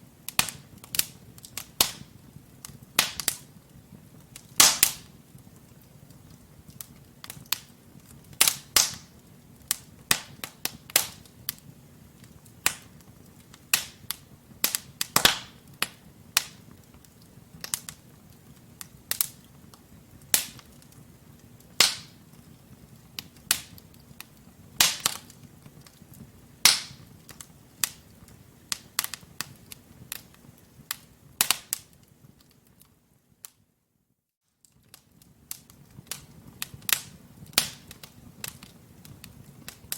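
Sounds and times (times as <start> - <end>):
low fire rumble: 0.0 - 33.3, 34.8 - 39.9
fire crackling and popping: 0.0 - 33.6, 34.5 - 39.9.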